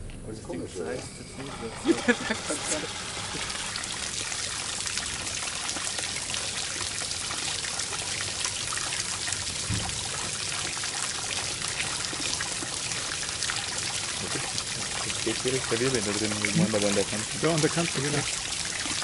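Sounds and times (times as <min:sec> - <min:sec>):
water pouring and splashing: 0:00.5 - 0:19.0.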